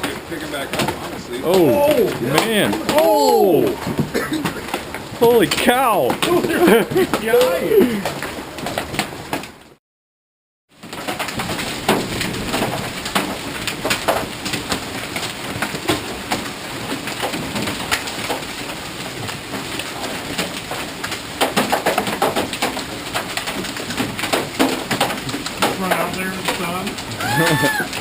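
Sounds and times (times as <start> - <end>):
hailstones pelting the ground: 0.0 - 9.6, 10.7 - 28.0.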